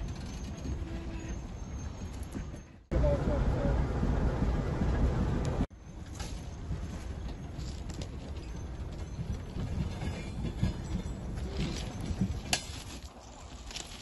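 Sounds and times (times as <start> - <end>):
wind rumbling on microphone: 2.2 - 14.0.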